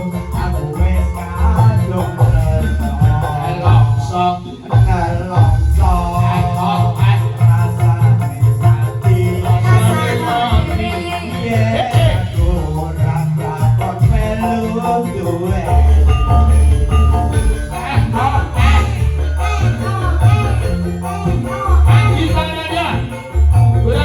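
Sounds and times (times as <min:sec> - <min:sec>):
band music with heavy bass beat: 0:00.0 - 0:24.0
jingling shaken percussion: 0:00.0 - 0:24.0.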